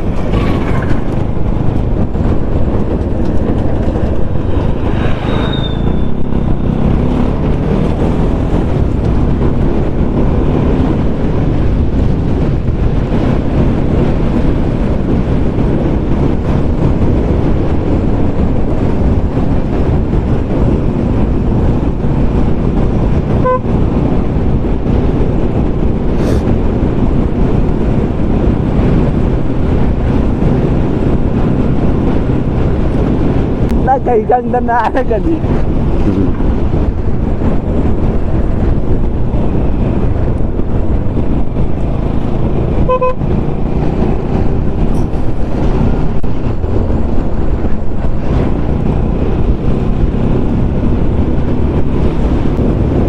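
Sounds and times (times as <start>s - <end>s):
motorcycle engine and road noise: 0.0s - 53.0s
wind rush on microphone: 0.0s - 53.0s.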